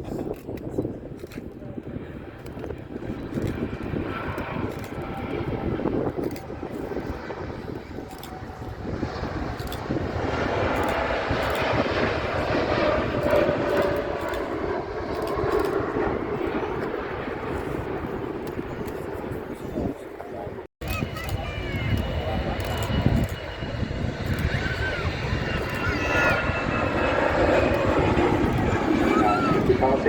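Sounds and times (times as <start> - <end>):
jet airliner engines roaring: 0.0 - 30.0.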